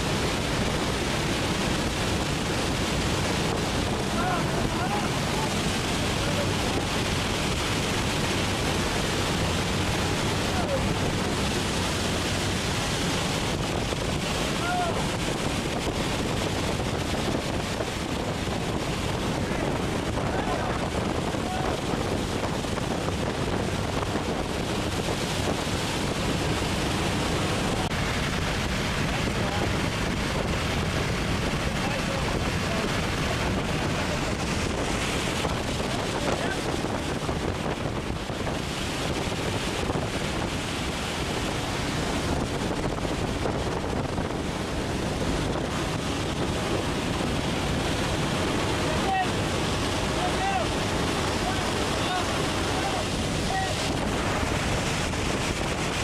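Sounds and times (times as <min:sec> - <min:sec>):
aircraft noise: 0:00.0 - 0:56.0
wind buffeting microphone: 0:00.0 - 0:56.0
wind rushing: 0:00.0 - 0:56.0.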